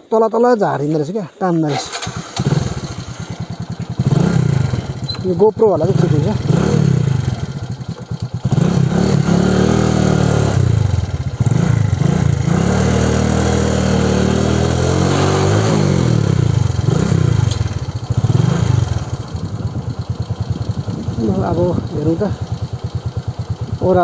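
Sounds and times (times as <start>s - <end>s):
motorcycle engine accelerating: 1.8s - 24.0s.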